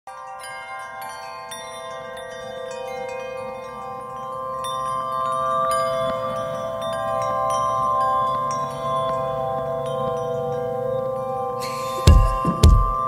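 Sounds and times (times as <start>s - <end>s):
ringing chime-like music: 0.1s - 13.0s.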